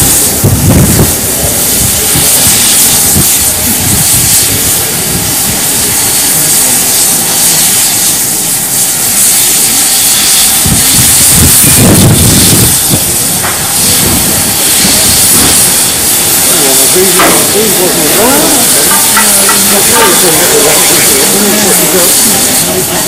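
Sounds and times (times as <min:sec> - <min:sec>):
steam hissing from locomotive: 0:00.0 - 0:23.0.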